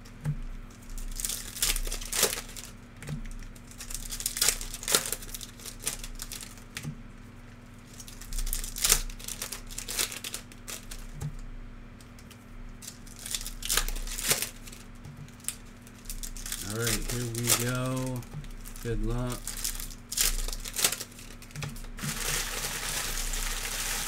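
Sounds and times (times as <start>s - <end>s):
plastic wrappers tearing and crinkling: 0.8s - 6.9s, 7.8s - 11.2s, 12.2s - 24.0s.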